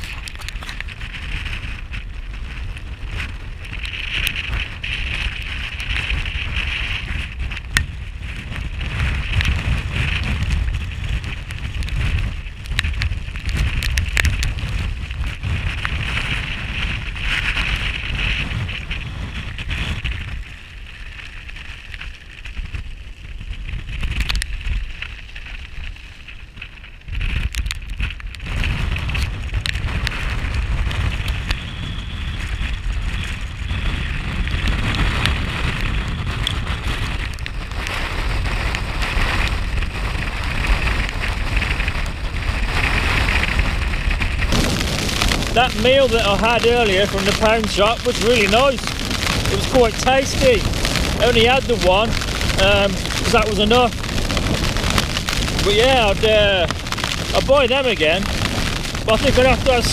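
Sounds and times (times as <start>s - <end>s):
gusting wind buffeting tent: 0.0s - 59.9s.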